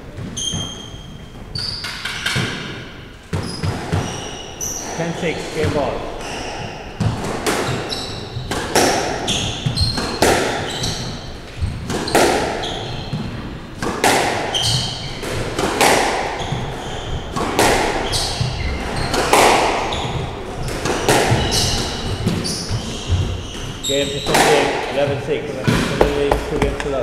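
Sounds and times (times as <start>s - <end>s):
shoes squeaking on wooden floor: 0.0s - 13.7s, 14.5s - 15.6s, 16.2s - 27.0s
squash ball hits echoing: 0.0s - 27.0s.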